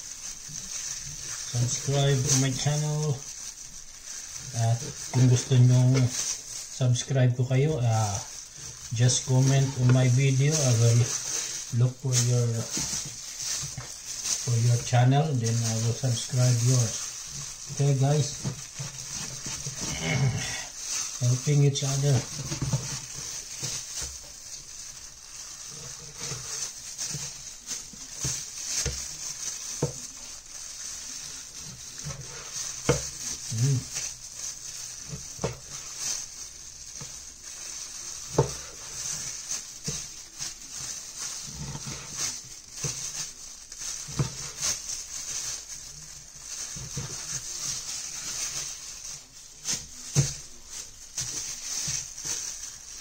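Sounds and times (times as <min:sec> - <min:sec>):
steady high hiss: 0:00.0 - 0:53.0.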